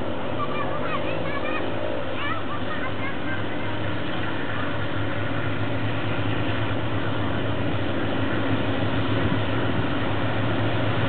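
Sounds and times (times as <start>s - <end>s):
diesel locomotive drone: 0.0s - 11.0s.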